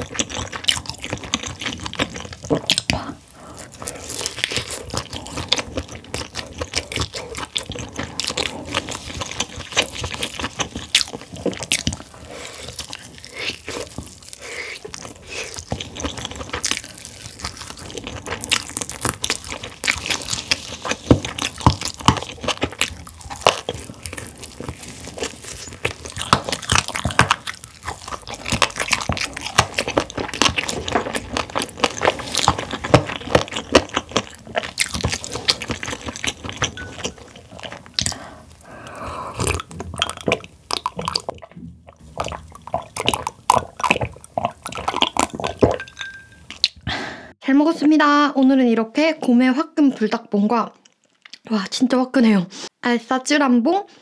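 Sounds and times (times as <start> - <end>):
biting and chewing: 0.0 - 46.8.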